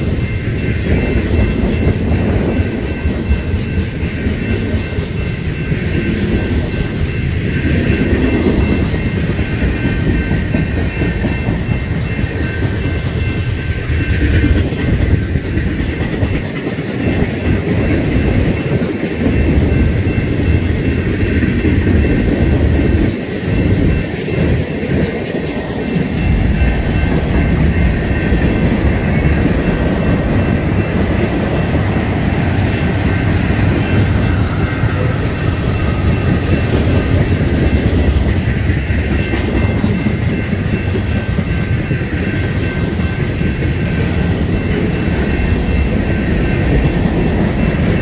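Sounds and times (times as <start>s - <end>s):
freight train rumbling past: 0.0s - 48.0s
steel wheels clacking on rails: 0.0s - 48.0s.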